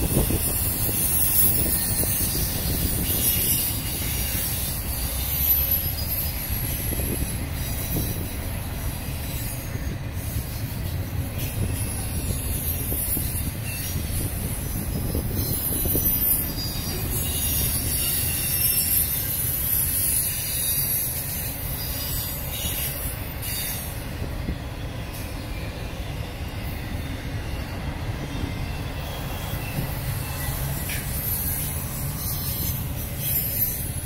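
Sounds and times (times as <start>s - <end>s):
high-pitched wheel squeal: 0.0s - 25.9s, 26.6s - 34.0s
steel wheels rumbling on rail: 0.0s - 34.0s.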